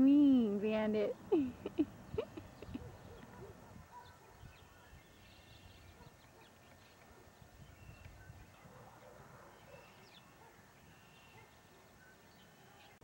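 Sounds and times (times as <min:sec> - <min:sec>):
faint bird chirps: 0:02.1 - 0:13.0.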